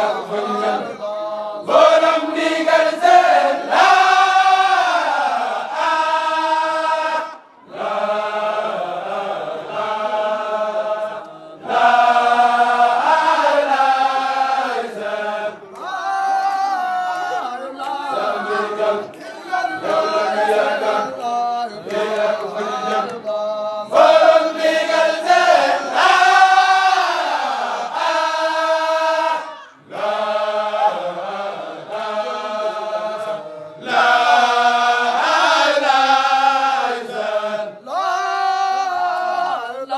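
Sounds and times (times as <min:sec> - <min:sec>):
group chanting: 0:00.0 - 0:39.9.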